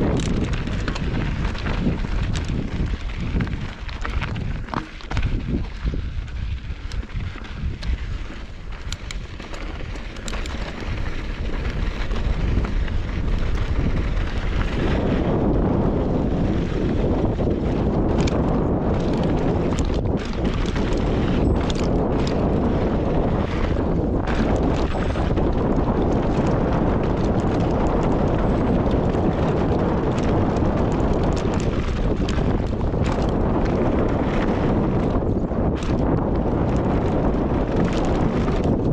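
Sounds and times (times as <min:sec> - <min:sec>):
bike rattling clicks: 0:00.0 - 0:38.9
rumble of riding on dirt trail: 0:00.0 - 0:38.9
wind buffeting microphone: 0:00.0 - 0:38.9.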